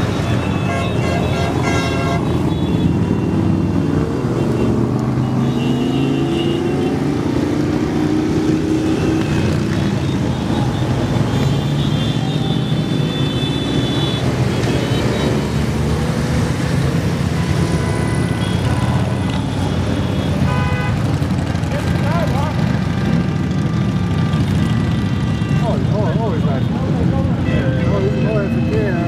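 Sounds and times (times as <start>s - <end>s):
motorcycle and car engines droning: 1.2s - 29.0s.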